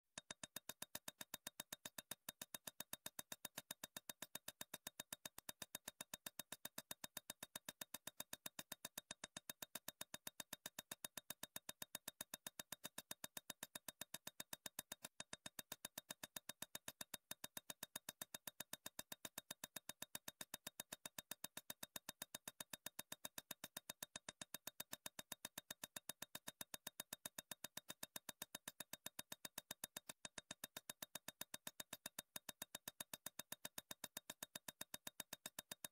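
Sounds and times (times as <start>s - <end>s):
rapid digital ticking: 0.2s - 35.9s.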